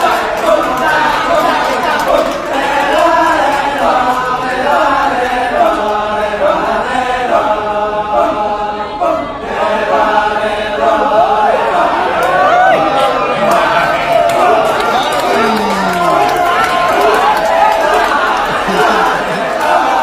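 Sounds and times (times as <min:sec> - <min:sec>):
group chanting in unison: 0:00.0 - 0:20.0.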